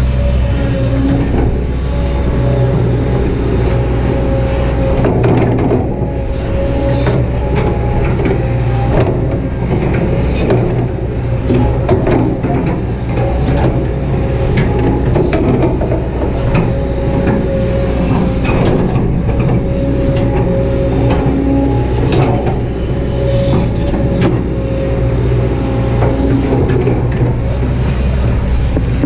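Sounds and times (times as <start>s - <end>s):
excavator diesel engine running: 0.0s - 29.0s
steady whine: 0.0s - 29.0s.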